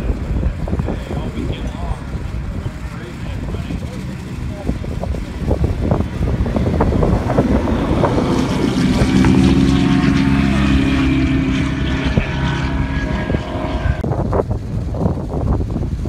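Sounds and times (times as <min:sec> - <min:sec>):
racing car engines: 0:00.0 - 0:14.4.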